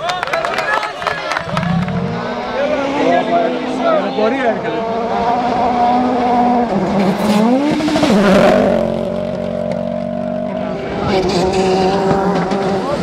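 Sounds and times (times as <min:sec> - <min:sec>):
rally car engine at full throttle: 0:01.4 - 0:13.0.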